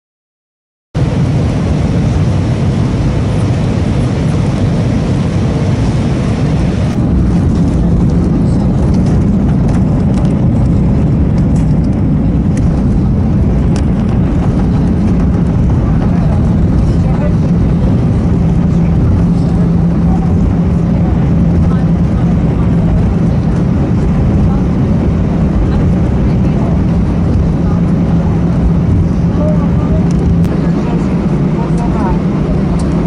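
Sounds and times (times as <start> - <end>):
jet engine cabin rumble: 1.0 - 33.0.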